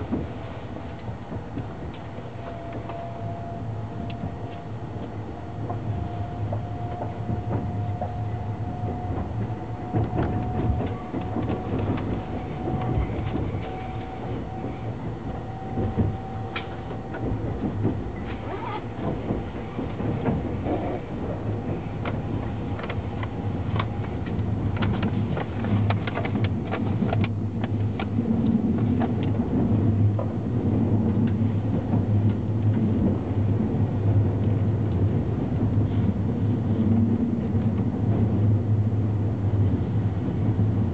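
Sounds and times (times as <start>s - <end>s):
train wheels clacking on rails: 0.0s - 40.9s.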